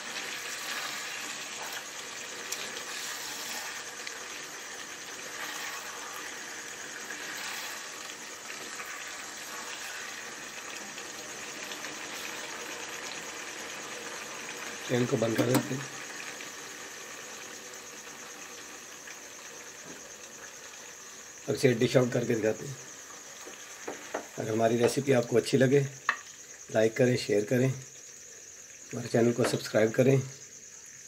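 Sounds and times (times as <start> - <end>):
curry sizzling in oil: 0.0 - 31.0.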